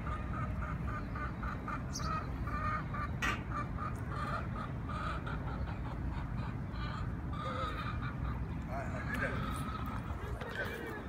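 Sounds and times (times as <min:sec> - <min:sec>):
chickens clucking: 0:00.0 - 0:11.0
low street noise rumble: 0:00.0 - 0:11.0.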